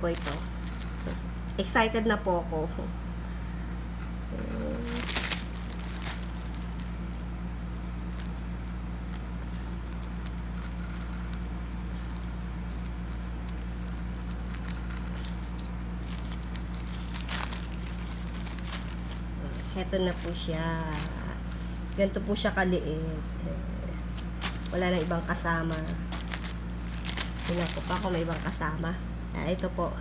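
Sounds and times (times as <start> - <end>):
plastic pouch crinkling: 0.0 - 1.2, 4.7 - 23.4, 24.0 - 29.0
steady low hum: 0.0 - 30.0.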